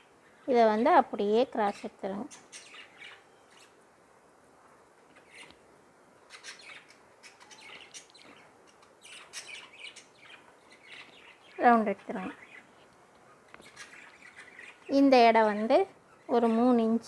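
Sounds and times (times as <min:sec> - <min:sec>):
faint bird chirps: 0:00.0 - 0:03.8, 0:05.0 - 0:17.0.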